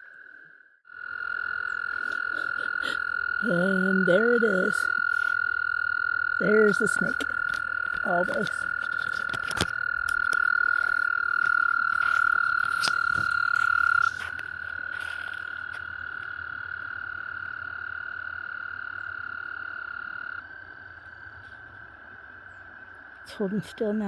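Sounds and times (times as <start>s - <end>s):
frogs trilling: 0.0s - 24.0s.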